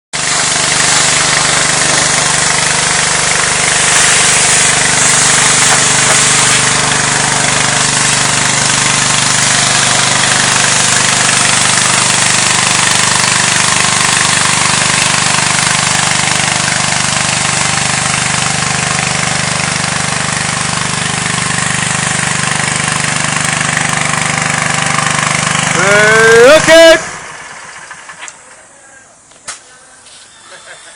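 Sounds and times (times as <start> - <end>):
high-pressure water spray hiss: 0.2 - 26.8
pressure washer engine hum: 0.2 - 30.9.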